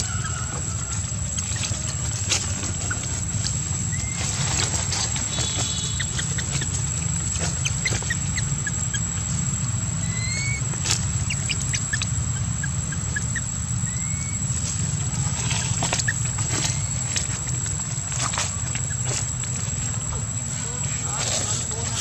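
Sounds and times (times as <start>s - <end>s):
squeaky rising calls: 0.0s - 21.7s
constant high whine: 0.0s - 22.0s
low background rumble: 0.0s - 22.0s.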